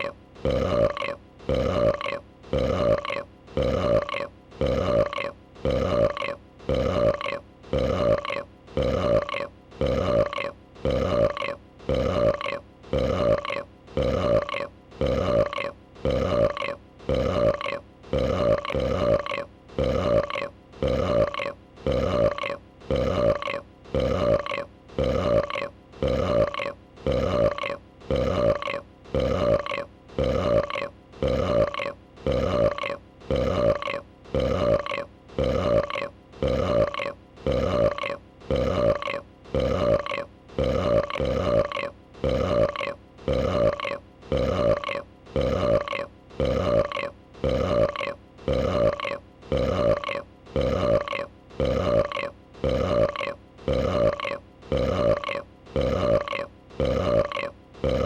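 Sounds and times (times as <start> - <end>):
creature burping: 0.0 - 58.0.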